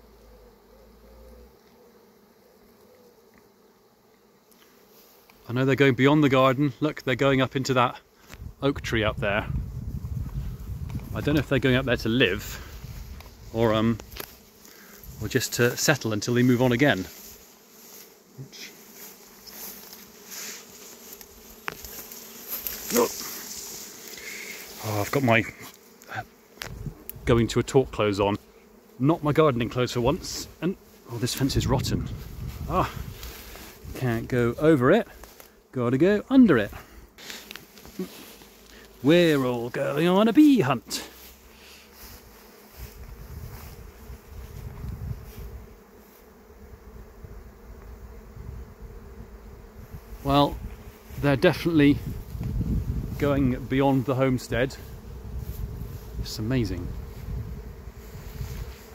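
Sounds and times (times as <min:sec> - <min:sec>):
bees buzzing: 0:00.0 - 0:58.9.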